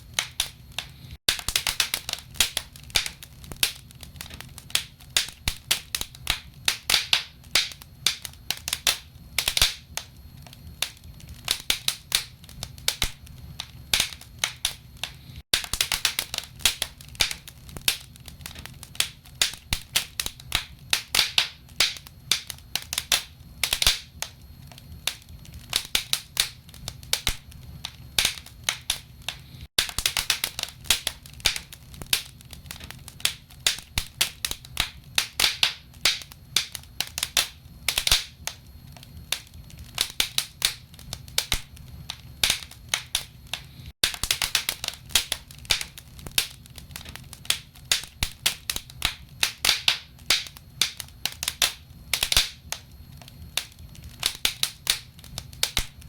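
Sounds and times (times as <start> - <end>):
low rumble of fire: 0.0 - 56.0
logs crackling and popping: 0.1 - 56.0.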